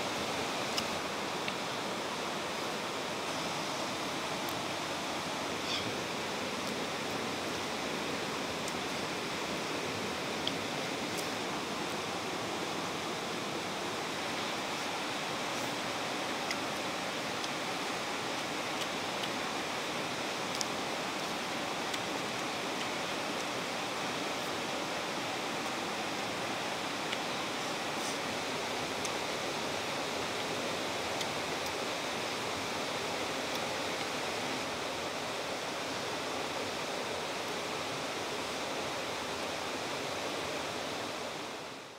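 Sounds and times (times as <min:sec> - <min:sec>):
rushing hiss of outdoor ambience: 0:00.0 - 0:41.9.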